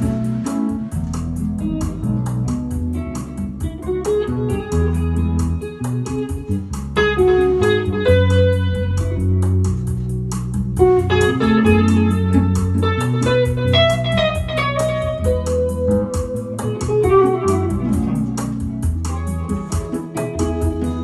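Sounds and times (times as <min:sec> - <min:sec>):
electric guitar melody: 0:00.0 - 0:21.0
steady ticking beat: 0:00.0 - 0:21.0
sustained low bass notes: 0:00.0 - 0:21.0.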